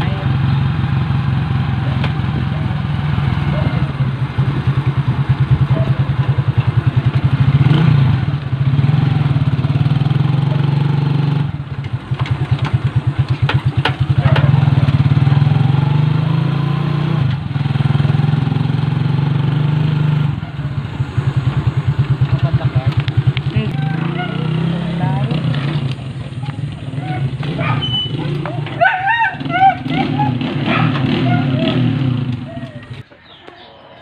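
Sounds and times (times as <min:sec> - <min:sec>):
small motorcycle engine running: 0:00.0 - 0:33.0.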